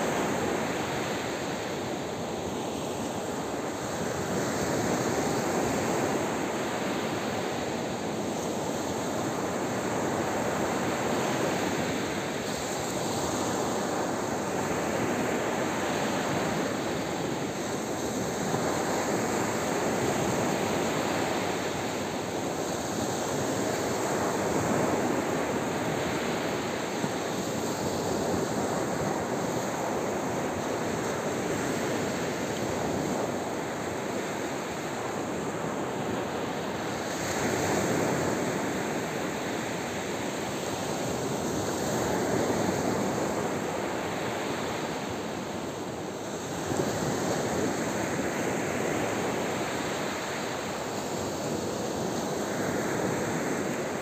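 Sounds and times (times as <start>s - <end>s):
small surf washing up a beach: 0.0s - 54.0s.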